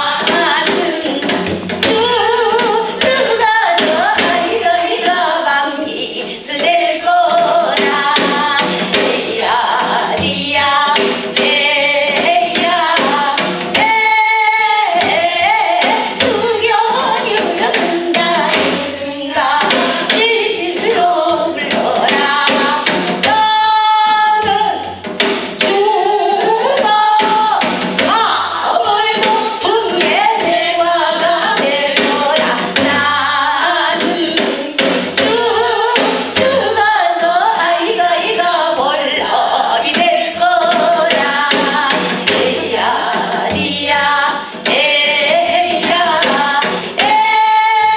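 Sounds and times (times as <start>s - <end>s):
drum beating steady rhythm: 0.0s - 47.9s
women singing together: 0.0s - 47.9s.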